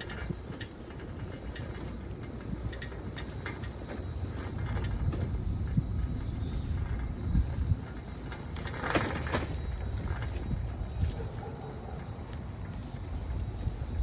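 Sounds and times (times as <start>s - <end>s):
bicycle tyre noise: 0.0s - 14.0s
wind buffeting microphone: 0.0s - 14.0s.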